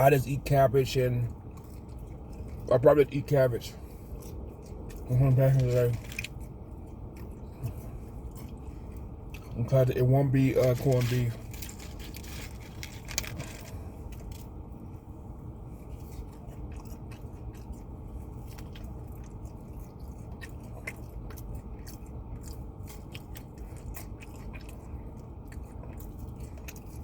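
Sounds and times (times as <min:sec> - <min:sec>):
low background hum: 0:00.0 - 0:27.0
person chewing fries: 0:00.0 - 0:27.0.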